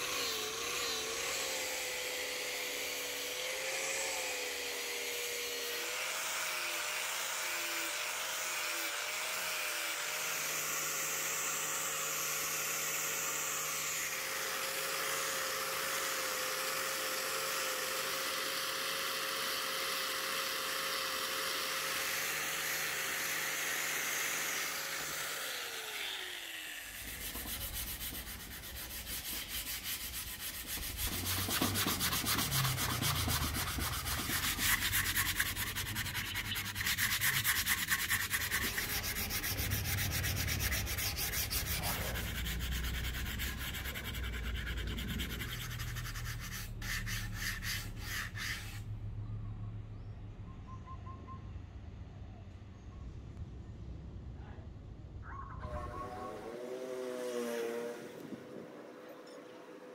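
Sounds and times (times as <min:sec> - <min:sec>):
angle grinder sanding wood: 0:00.0 - 0:48.9
sanding disc rasping on wood: 0:00.0 - 0:48.9.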